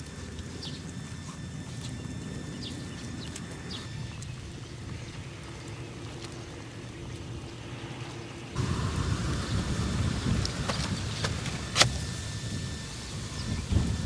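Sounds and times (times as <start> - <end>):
outdoor background: 0.0 - 14.0
stew simmering hissing and bubbling: 0.0 - 14.0.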